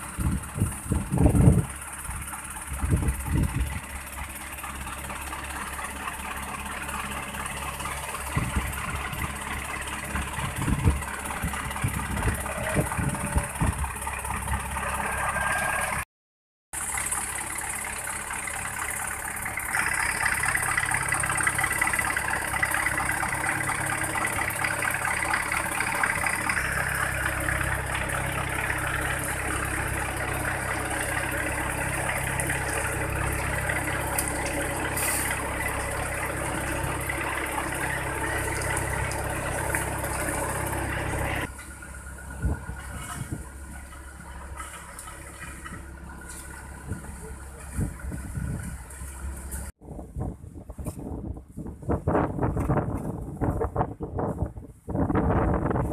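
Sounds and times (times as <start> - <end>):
diesel engines running: 0.0 - 16.1, 16.8 - 49.8.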